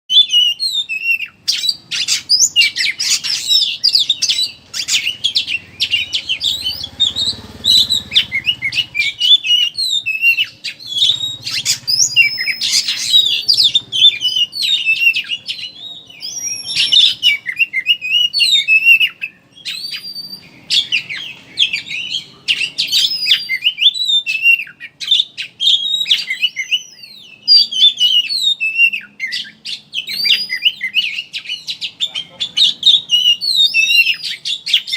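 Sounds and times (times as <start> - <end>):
songbird twittering: 0.1 - 34.9.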